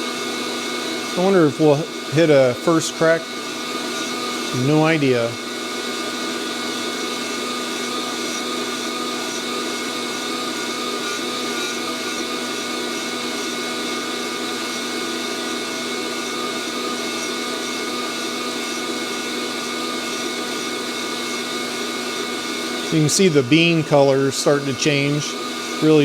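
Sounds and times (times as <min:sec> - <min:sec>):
coffee roaster fan whooshing: 0:00.0 - 0:26.0.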